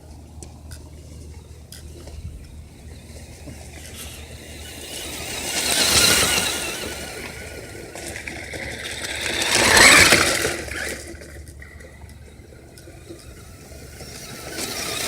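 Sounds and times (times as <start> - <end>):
radio-controlled car driving past: 1.4 - 15.0.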